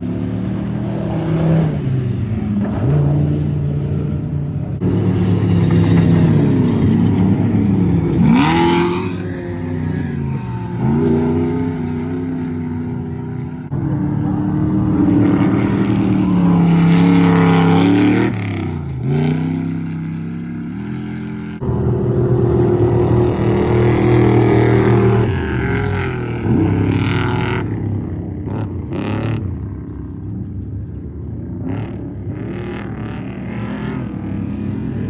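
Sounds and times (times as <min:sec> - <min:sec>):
race truck engines revving: 0:00.0 - 0:35.0.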